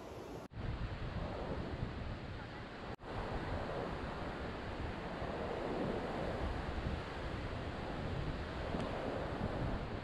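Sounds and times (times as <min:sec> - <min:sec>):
wind buffeting microphone: 0:00.5 - 0:10.0.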